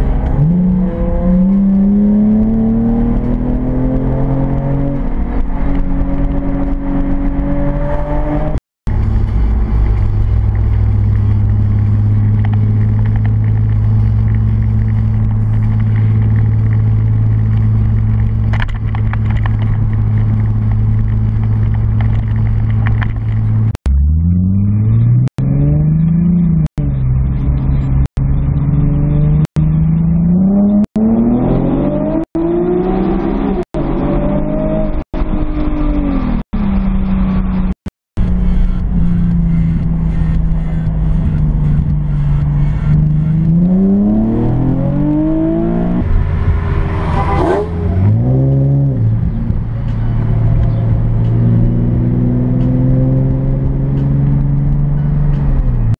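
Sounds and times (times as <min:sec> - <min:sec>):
car exhaust cruising: 0:00.0 - 0:55.9
engine revving: 0:00.0 - 0:55.9.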